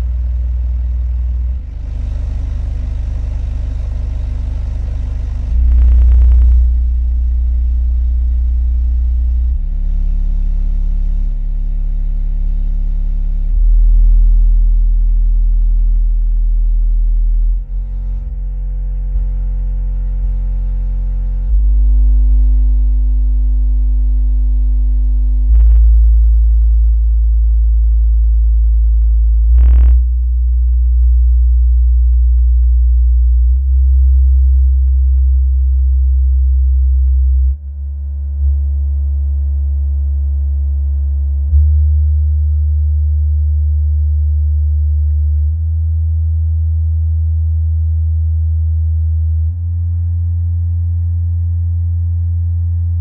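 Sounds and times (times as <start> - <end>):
subwoofer bass tones: 0.0 - 53.0.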